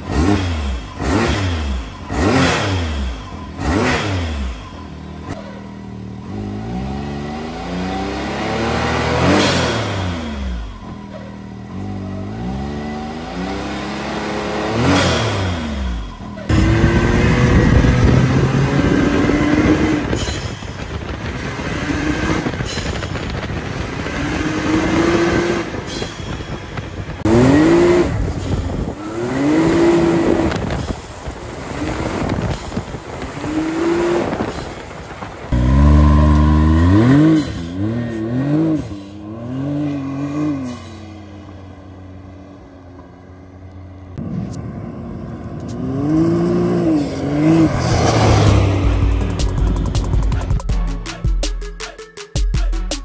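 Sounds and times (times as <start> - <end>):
engine revving: 0.0 - 26.1, 26.8 - 51.2.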